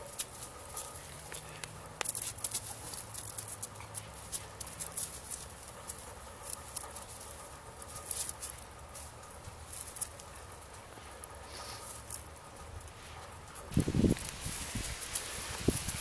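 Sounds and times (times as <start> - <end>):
puppy crunching snow: 0.0 - 16.0
shrub branches rustling: 0.0 - 16.0.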